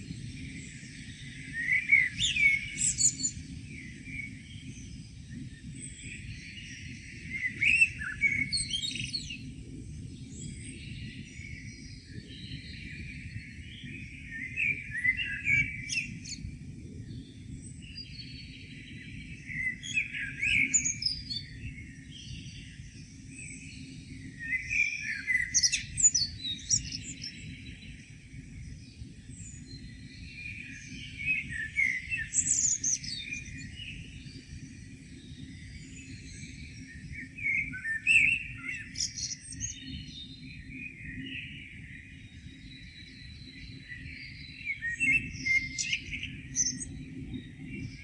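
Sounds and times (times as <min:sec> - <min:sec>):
songbirds singing: 0:00.0 - 0:48.0.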